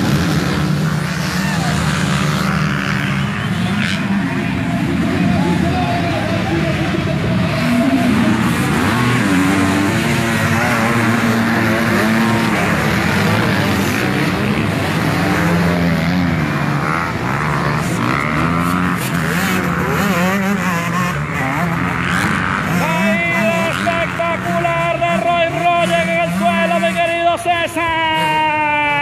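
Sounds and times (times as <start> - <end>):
motocross bikes racing past: 0.0 - 29.0.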